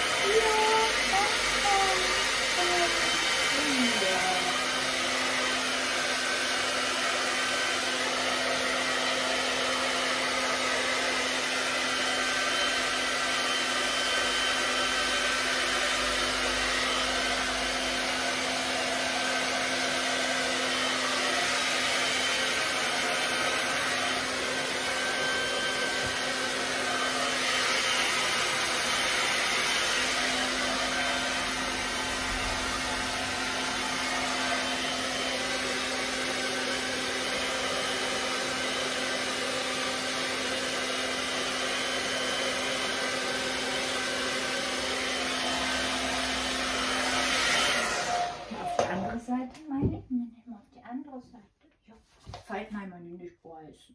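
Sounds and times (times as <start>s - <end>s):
hair dryer running: 0.0s - 50.0s.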